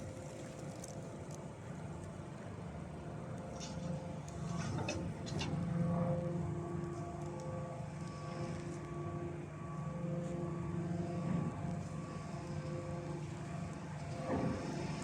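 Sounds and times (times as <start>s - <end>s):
piling rig engine droning: 0.0s - 15.0s.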